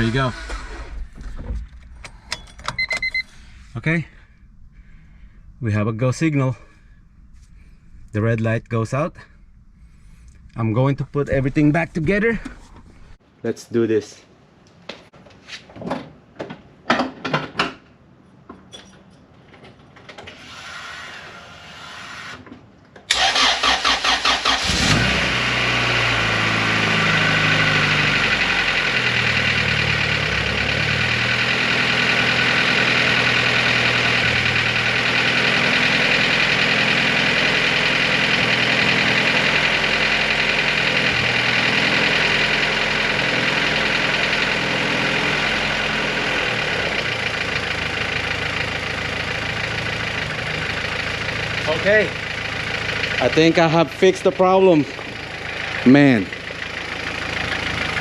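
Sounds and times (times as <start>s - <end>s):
car engine cranking and idling: 0.0s - 13.2s, 23.0s - 58.0s.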